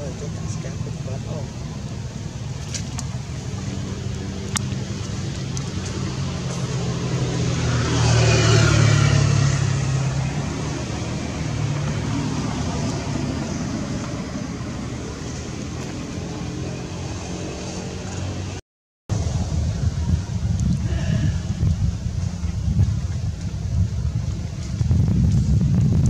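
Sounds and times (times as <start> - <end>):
vehicle engine passing: 0.0 - 26.0.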